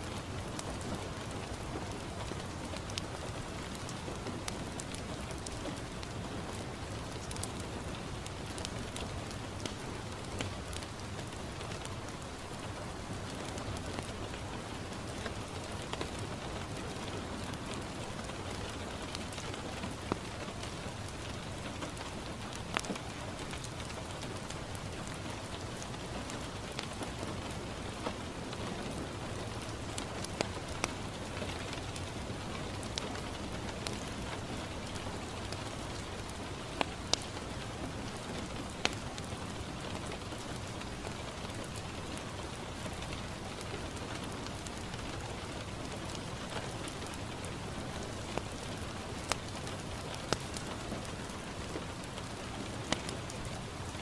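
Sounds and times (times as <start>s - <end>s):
rain on window glass: 0.0s - 54.0s
wood fire crackling: 0.0s - 54.0s.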